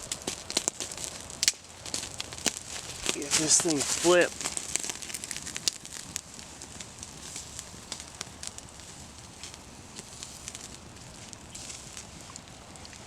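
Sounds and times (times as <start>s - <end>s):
campfire crackling: 0.0s - 13.0s
faint steady hiss: 0.0s - 13.0s.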